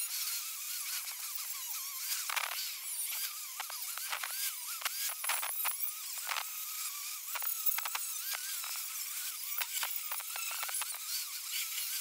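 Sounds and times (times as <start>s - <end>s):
abrasive disc rasping on metal: 0.0s - 12.0s
angle grinder motor whining: 0.0s - 12.0s.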